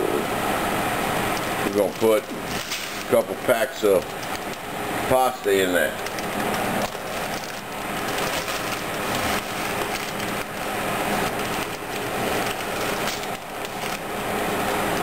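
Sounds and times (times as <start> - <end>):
boiling water hissing: 0.0 - 15.0
dry spaghetti clicking and crackling: 1.3 - 15.0.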